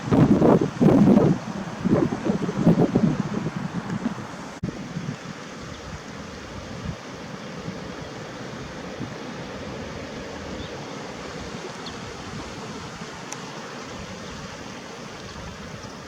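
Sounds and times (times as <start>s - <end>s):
lake water: 0.0s - 16.0s
wind: 0.0s - 16.0s.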